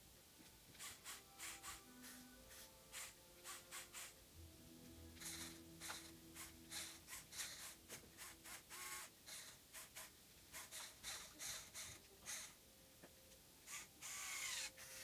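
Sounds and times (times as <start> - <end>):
toy motors whirring and clicking: 0.8 - 4.2, 5.2 - 12.6, 13.7 - 15.0.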